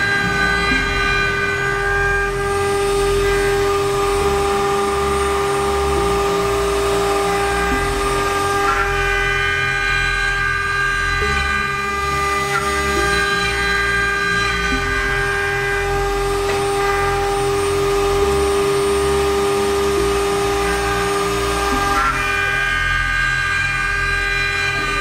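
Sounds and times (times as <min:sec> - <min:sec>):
low pulsing rumble: 0:00.0 - 0:25.0
router spindles whining: 0:00.0 - 0:25.0.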